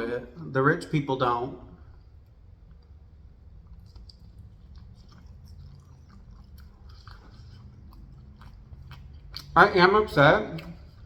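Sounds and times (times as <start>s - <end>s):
person chewing food: 1.8s - 11.0s.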